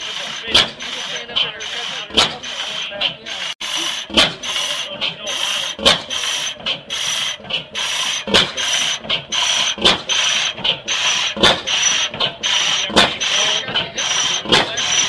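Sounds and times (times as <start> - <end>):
old engine running slowly: 0.0 - 15.0
sharp engine cracks: 0.0 - 15.0.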